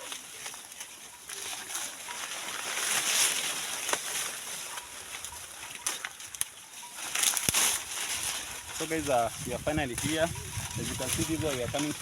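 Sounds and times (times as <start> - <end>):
dry maize leaves rustling: 0.0 - 12.0.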